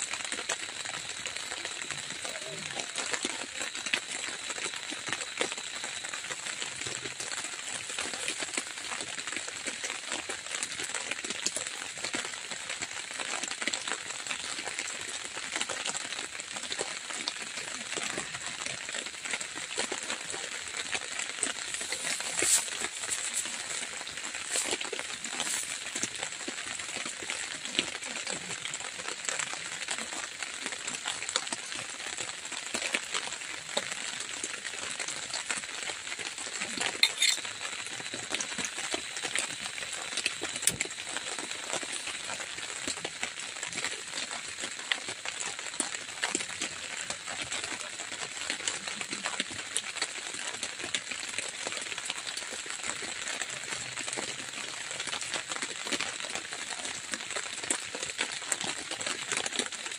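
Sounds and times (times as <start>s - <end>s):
drizzle pattering on a tent: 0.0s - 59.9s.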